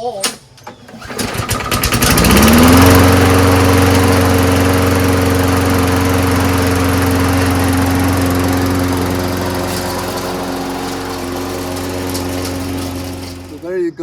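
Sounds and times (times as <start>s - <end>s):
lawn mower engine starting: 0.4s - 13.8s.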